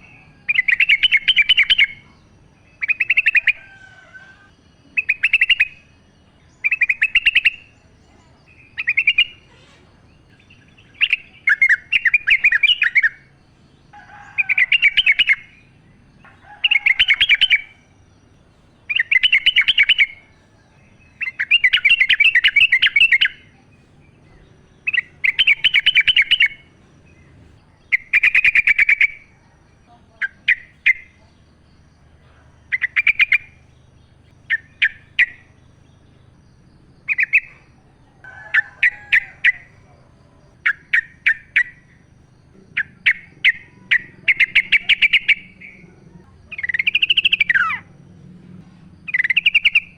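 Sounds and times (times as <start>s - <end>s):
bulbul singing chattering phrases: 0.0s - 49.9s.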